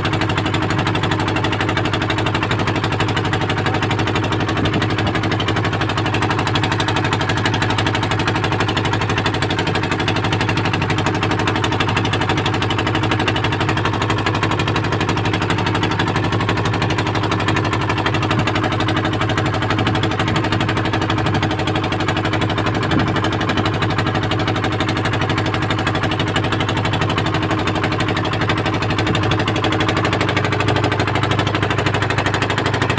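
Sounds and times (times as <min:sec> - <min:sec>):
boat engine running: 0:00.0 - 0:32.9.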